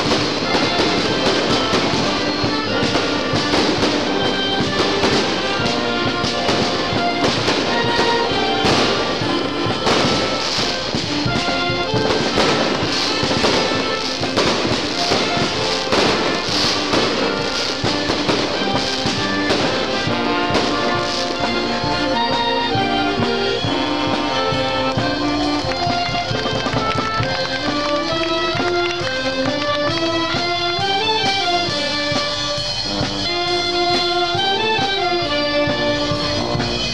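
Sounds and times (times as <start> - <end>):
background music: 0.0 - 36.9
fireworks bursting: 0.0 - 36.9.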